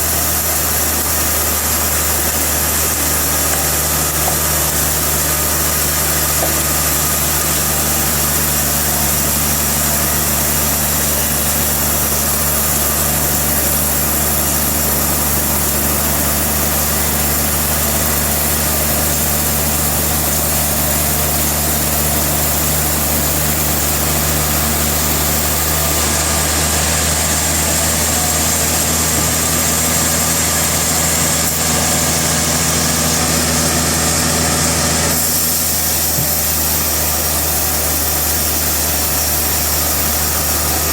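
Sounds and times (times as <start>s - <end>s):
sawmill machinery engine drone: 0.0s - 40.9s.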